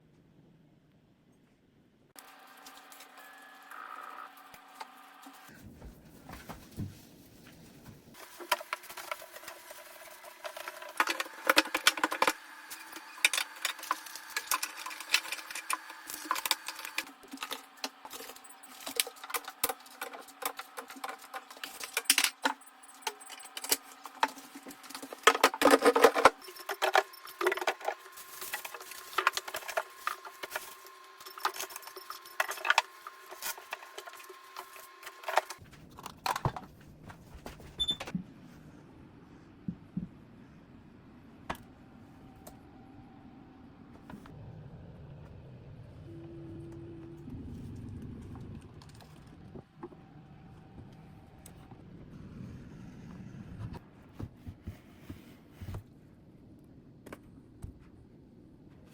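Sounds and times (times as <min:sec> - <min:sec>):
faint steady hum: 0:11.0 - 0:58.9.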